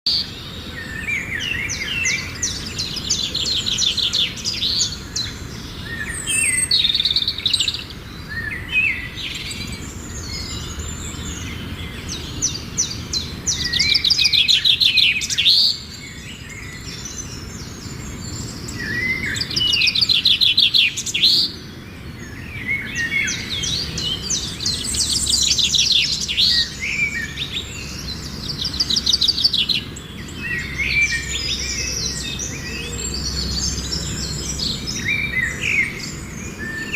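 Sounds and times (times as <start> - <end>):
small birds chirping and trilling: 0.0 - 36.9.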